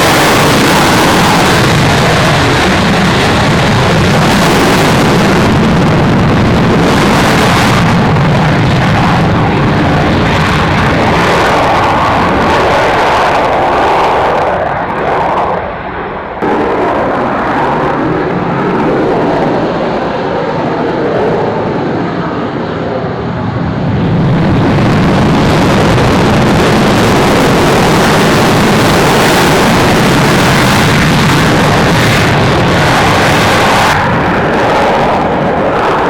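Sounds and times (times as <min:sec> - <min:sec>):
aircraft engines roaring: 0:00.0 - 0:36.0.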